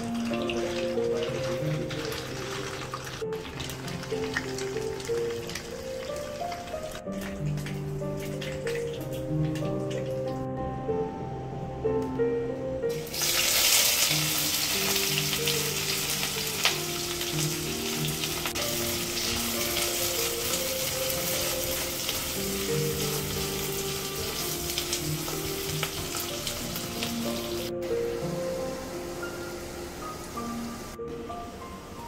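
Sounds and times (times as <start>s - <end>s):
onions sizzling in hot oil: 0.0s - 9.9s, 12.9s - 31.0s
background music: 0.0s - 32.0s.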